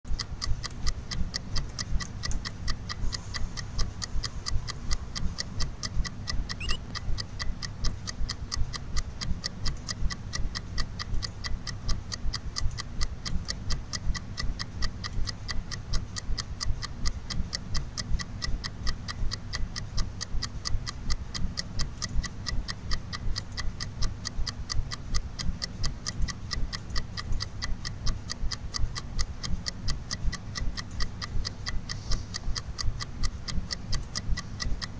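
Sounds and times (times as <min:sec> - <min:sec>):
steady ticking: 0:00.1 - 0:34.9.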